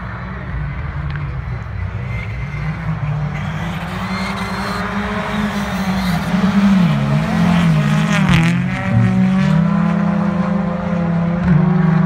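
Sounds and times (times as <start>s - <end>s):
rally car engines revving: 0.0s - 12.0s.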